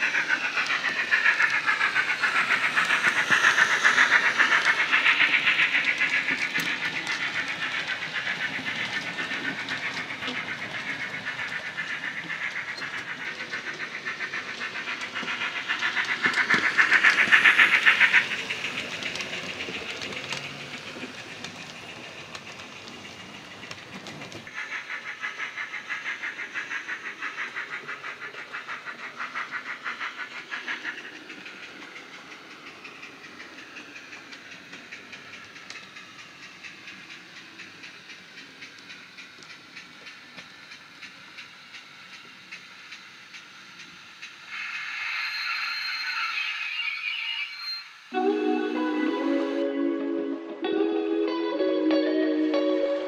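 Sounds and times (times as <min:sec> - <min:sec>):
model coach wheels clattering on track: 0:00.0 - 0:44.4
model steam locomotive chuffing: 0:00.0 - 0:51.0.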